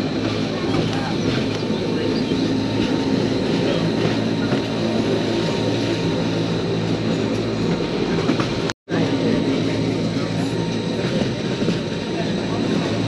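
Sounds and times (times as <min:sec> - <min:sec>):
train hum and rumble: 0:00.0 - 0:13.0.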